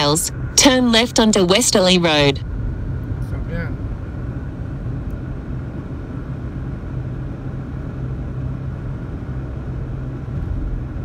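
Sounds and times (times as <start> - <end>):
car engine hum: 0.0 - 11.0.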